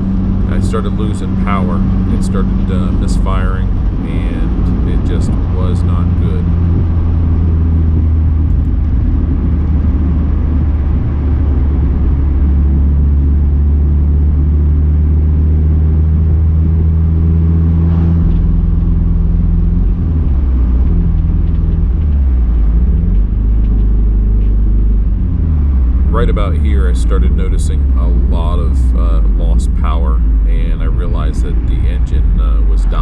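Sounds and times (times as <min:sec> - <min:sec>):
car engine misfiring: 0:00.0 - 0:15.4, 0:16.8 - 0:33.0.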